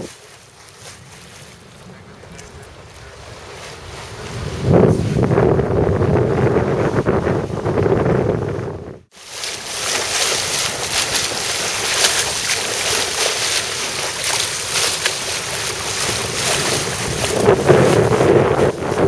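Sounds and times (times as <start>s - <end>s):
water rushing along a hull: 0.0s - 19.0s
wind buffeting microphone: 0.0s - 19.0s.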